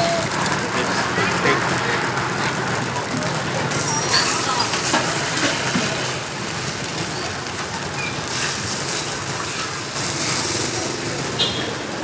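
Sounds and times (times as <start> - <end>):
food sizzling in hot oil: 1.1 - 11.5.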